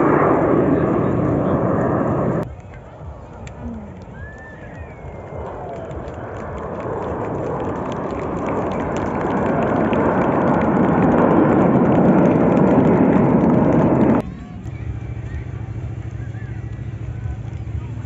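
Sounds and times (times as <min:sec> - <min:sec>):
jet aircraft roaring past: 0:00.0 - 0:18.0.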